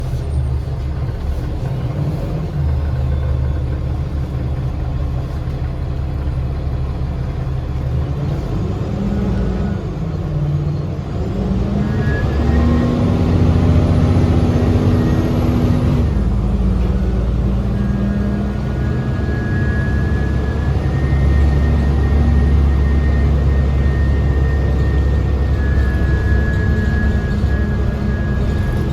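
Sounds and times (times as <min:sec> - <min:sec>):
bus diesel engine droning: 0:00.0 - 0:28.9.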